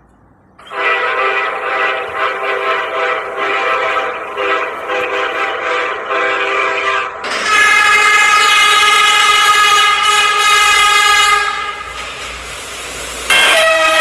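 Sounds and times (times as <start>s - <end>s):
wavering train air horn chord: 0.6s - 11.9s, 13.3s - 14.0s.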